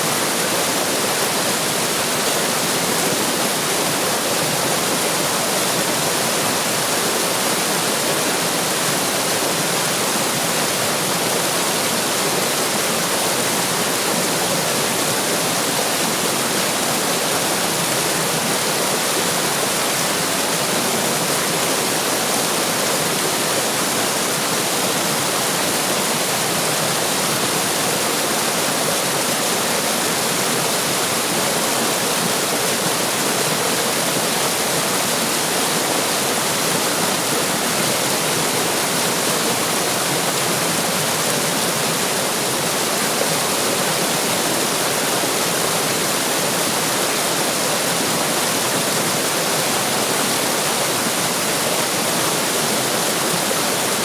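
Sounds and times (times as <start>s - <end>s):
water rushing and splashing: 0.0s - 54.0s.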